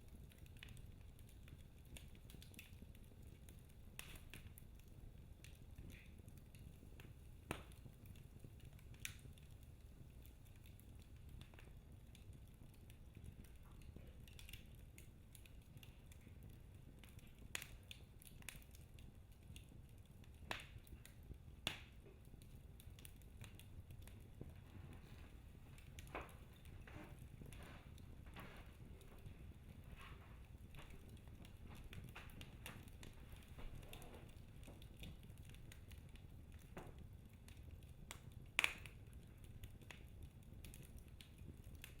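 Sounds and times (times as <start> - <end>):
wood fire burning quietly: 0.0 - 42.0.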